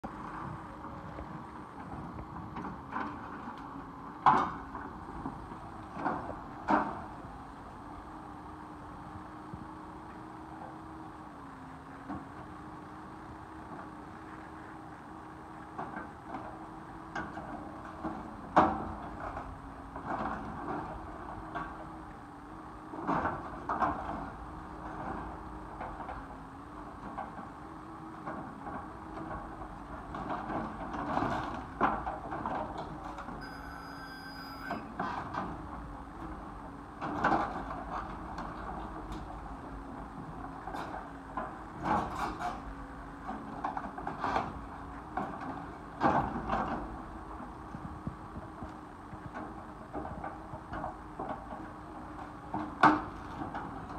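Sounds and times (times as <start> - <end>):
excavator running: 0.0 - 53.9.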